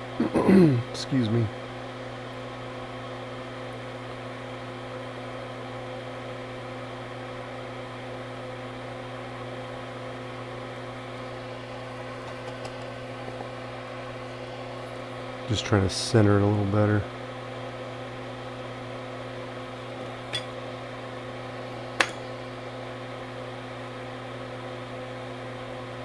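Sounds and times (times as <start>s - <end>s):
electric hum and whir: 0.0s - 26.0s.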